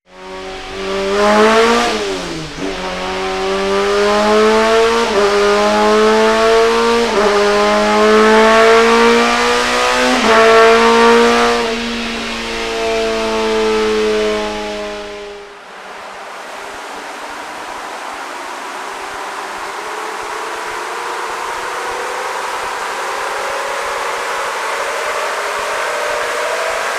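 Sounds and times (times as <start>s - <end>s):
steady rushing noise: 0.1s - 23.2s.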